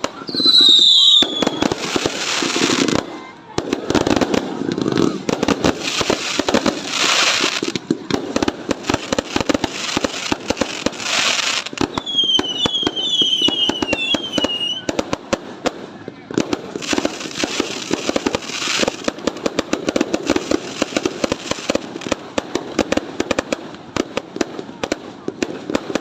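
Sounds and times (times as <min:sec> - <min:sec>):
fireworks bangs and crackles: 0:00.0 - 0:26.0
fireworks hissing bursts: 0:00.0 - 0:26.0.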